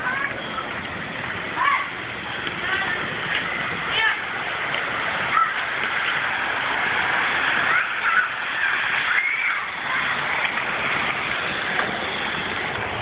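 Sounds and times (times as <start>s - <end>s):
floodwater rushing and sloshing: 1.4s - 13.0s.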